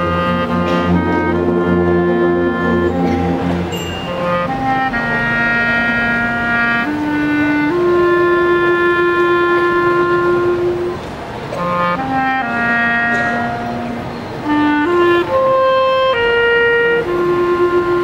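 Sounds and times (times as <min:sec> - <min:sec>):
wind band playing slow passage: 0:00.0 - 0:18.0.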